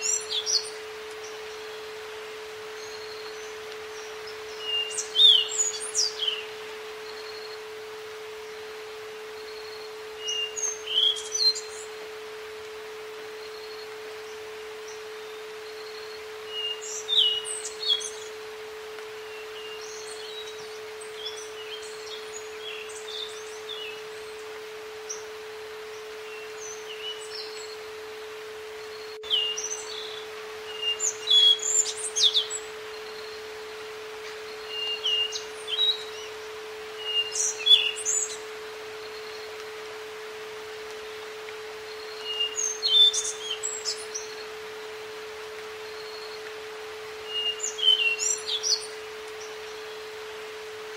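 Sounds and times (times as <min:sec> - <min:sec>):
faint hiss: 0:00.0 - 0:50.9
songbirds chirping: 0:00.0 - 0:50.9
steady pure tone: 0:00.0 - 0:50.9.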